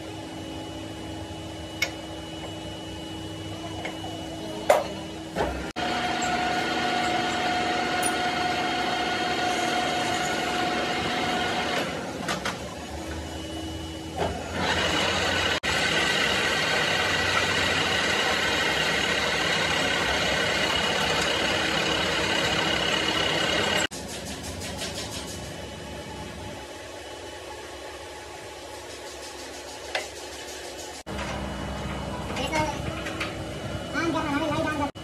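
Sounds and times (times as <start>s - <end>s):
machine whining and whirring: 0.0s - 35.0s.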